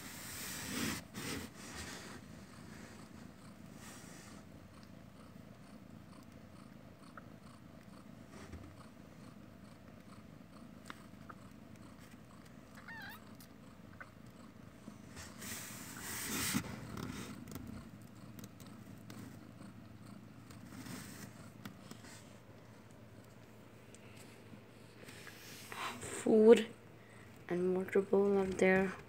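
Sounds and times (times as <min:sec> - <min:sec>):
cat purring: 0:00.0 - 0:26.2.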